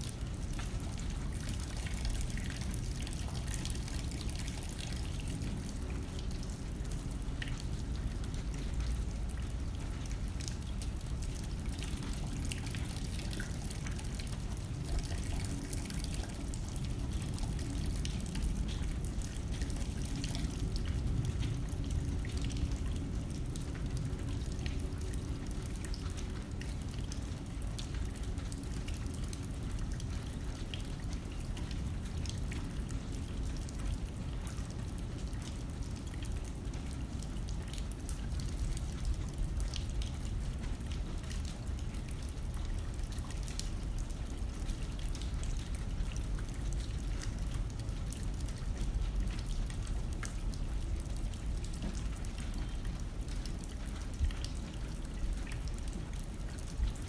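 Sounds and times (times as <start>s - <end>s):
rain drops ticking on glass: 0.0s - 57.0s.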